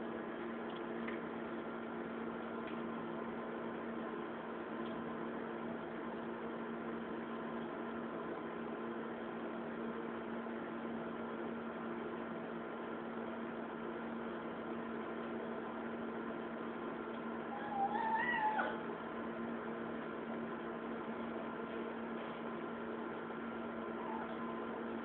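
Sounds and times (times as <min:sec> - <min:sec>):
electrical hum: 0:00.0 - 0:25.0.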